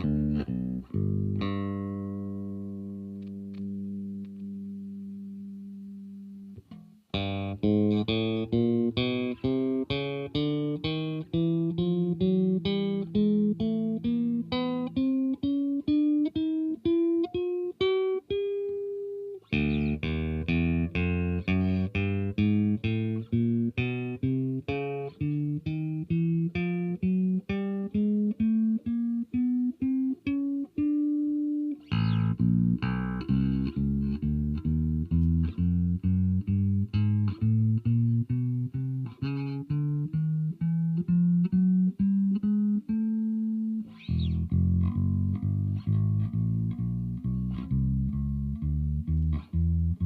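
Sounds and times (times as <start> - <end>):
electric bass plucked notes: 0.0 - 50.0.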